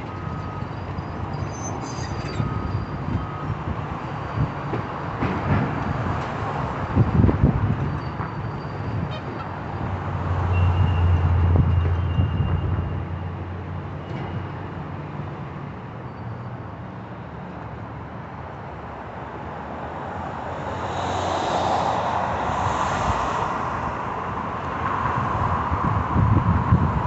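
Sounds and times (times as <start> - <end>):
rushing vehicle noise: 0.0 - 27.0.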